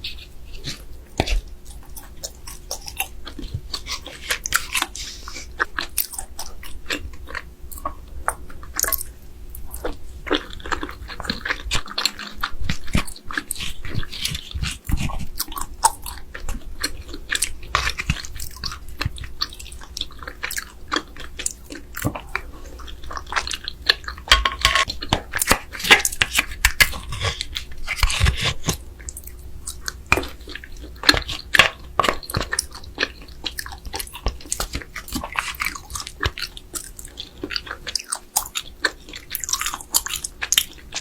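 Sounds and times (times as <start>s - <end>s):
wet chewing and crunching: 0.0s - 41.0s.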